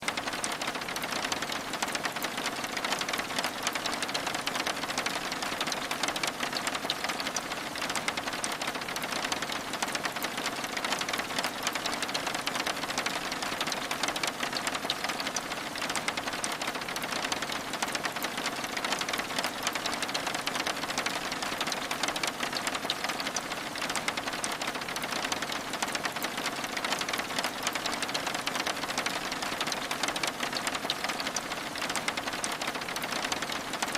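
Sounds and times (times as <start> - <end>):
rain pattering on window glass: 0.0 - 33.9.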